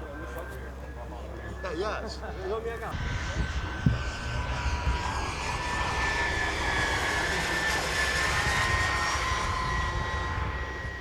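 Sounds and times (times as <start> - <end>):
model airplane engines whining: 0.0 - 11.0.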